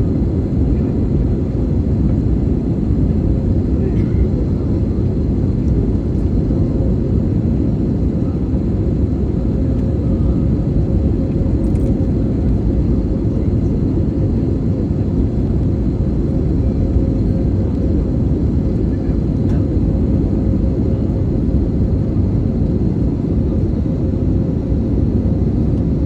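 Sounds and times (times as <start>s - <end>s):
engine and airflow rumble: 0.0s - 26.0s.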